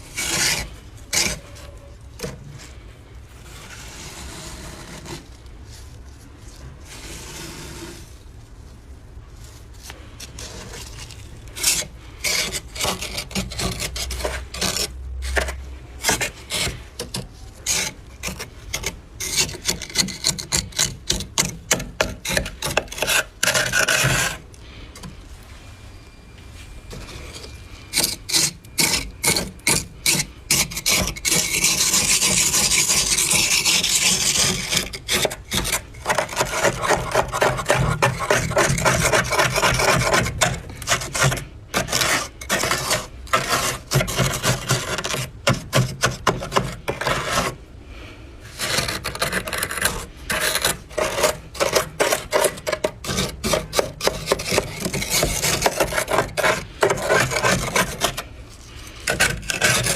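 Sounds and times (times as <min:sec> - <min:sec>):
frost being scraped: 0:00.0 - 0:24.8, 0:26.9 - 0:47.7, 0:48.4 - 0:59.9.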